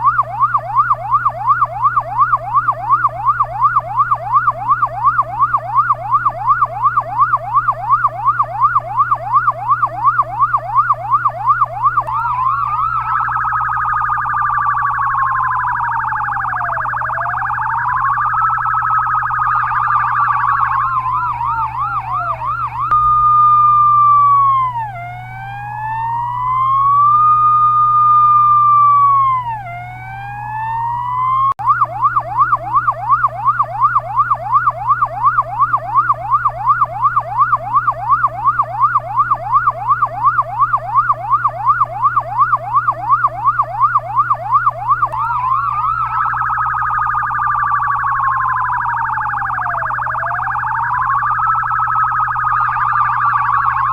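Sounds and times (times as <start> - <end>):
ambulance siren wailing and yelping: 0.0 - 53.9
steady low hum: 0.0 - 53.9.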